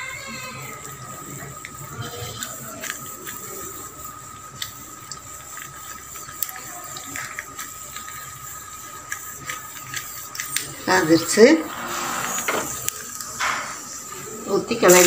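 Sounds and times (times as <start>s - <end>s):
nuts sizzling in hot fat: 0.0s - 15.0s.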